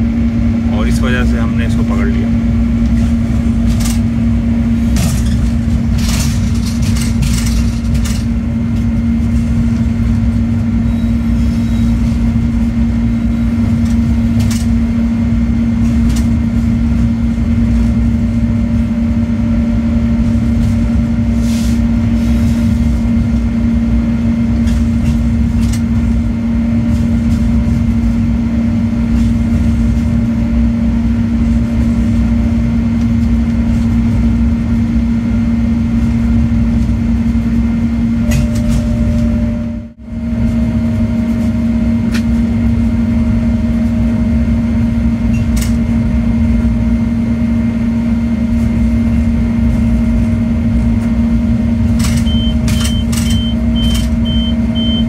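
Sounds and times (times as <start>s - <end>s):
locomotive engine hum: 0.0s - 55.0s
low rumble: 0.0s - 55.0s.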